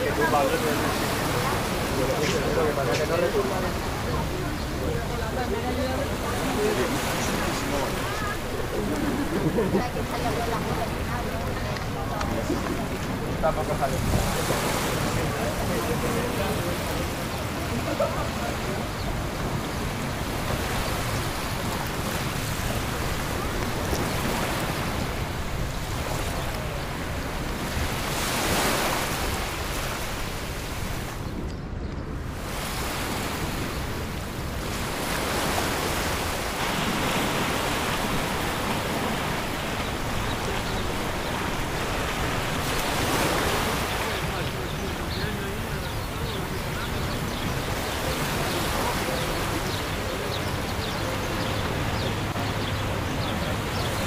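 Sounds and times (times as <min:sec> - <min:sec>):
sea waves washing onto beach: 0:00.0 - 0:54.0.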